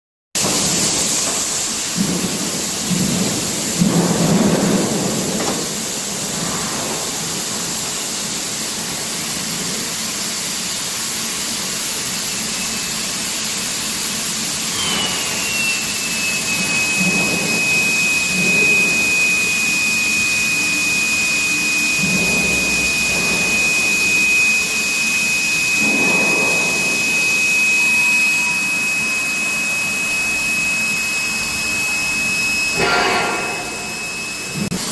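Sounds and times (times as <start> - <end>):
high whine of induction coil: 0.4 - 34.9
industrial noise: 0.4 - 34.9.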